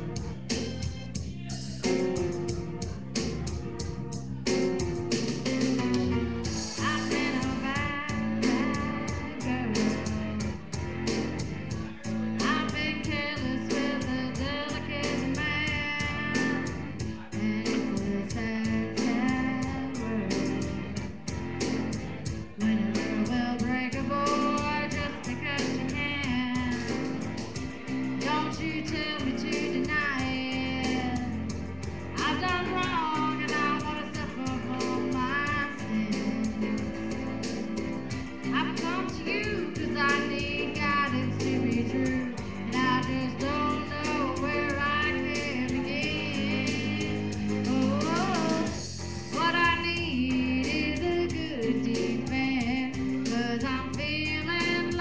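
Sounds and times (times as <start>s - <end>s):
guitar accompaniment: 0.0s - 55.0s
steady beat: 0.0s - 55.0s
person singing: 5.5s - 21.1s, 22.2s - 55.0s.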